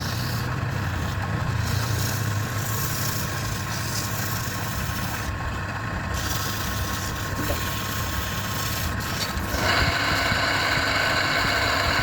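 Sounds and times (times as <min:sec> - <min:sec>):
motor humming with faint whine: 0:00.0 - 0:12.0.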